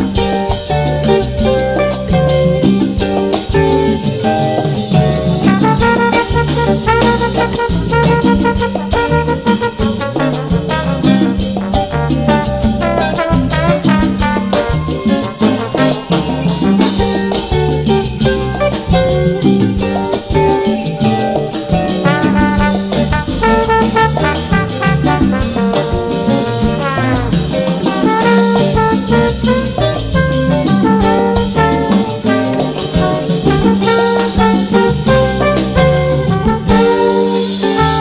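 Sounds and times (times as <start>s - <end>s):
jazzy brass music with drums: 0.0s - 38.0s.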